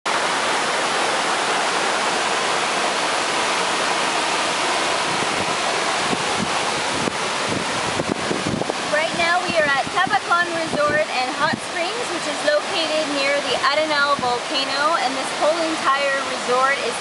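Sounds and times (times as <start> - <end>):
water rushing over rocks: 0.1 - 17.0.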